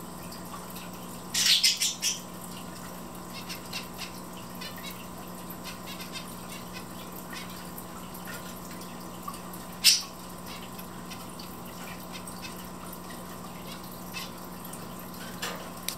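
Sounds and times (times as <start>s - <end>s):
birds ticking and tapping in cage: 0.1s - 15.9s.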